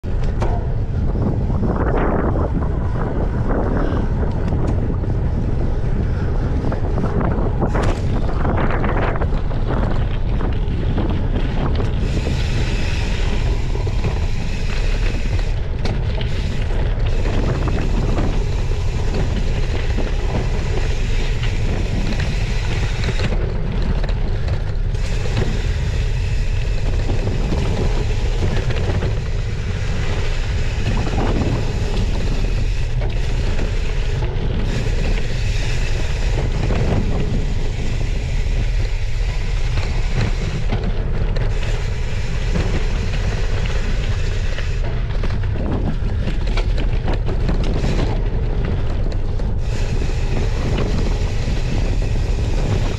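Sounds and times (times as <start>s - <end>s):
bike tyres rolling on dirt: 0.0s - 52.9s
wind buffeting microphone: 0.0s - 52.9s.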